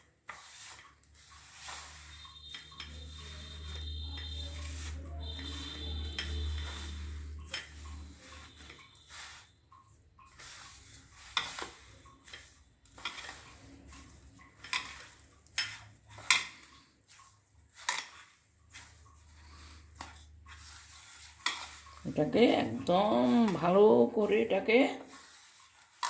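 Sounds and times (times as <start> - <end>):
dough being kneaded by hand: 0.0 - 26.0.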